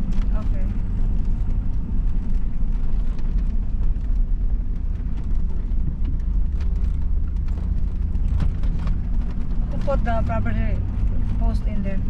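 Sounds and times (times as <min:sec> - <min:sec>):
light rattles and knocks: 0:00.0 - 0:12.0
vehicle engine rumbling: 0:00.0 - 0:12.0.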